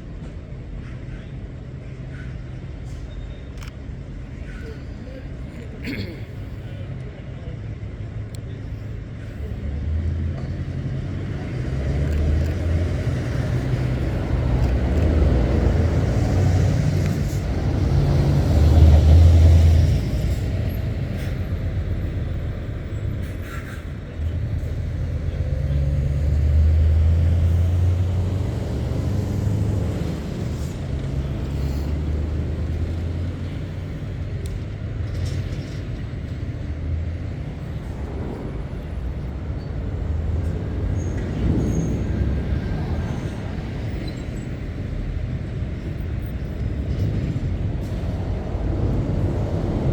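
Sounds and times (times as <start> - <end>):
lorry diesel engines: 0.0 - 49.9.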